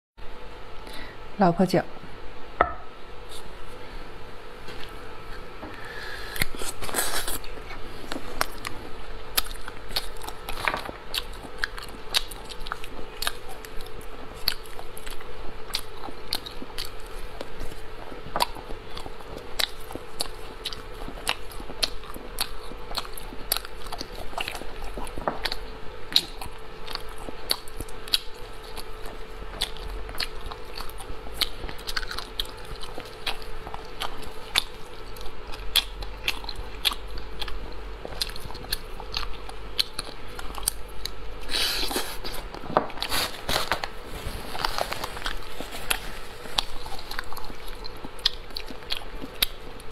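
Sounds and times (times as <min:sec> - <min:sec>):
faint steady hum: 0:00.2 - 0:49.9
crunchy wet chewing: 0:04.6 - 0:49.9.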